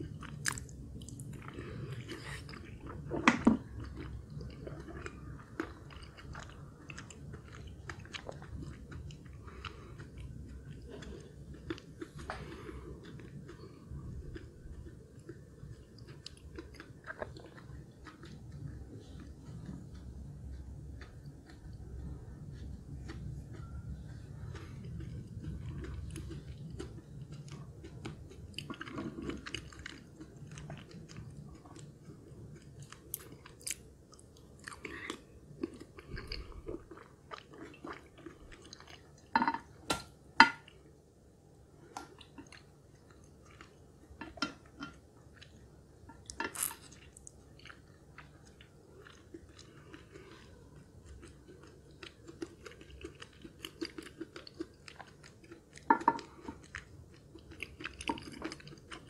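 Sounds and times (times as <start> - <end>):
close chewing with sharp clicks: 0.0 - 39.4, 41.9 - 59.0.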